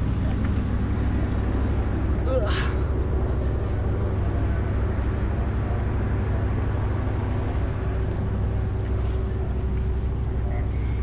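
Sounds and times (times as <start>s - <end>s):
diesel train engine idling: 0.0s - 11.0s
steady hum: 0.0s - 11.0s.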